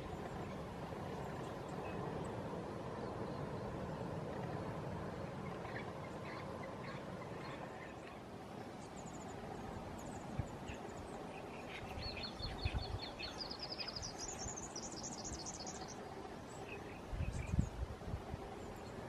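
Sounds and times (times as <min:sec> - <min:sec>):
low outdoor rumble: 0:00.0 - 0:19.0
songbird singing: 0:00.0 - 0:19.0.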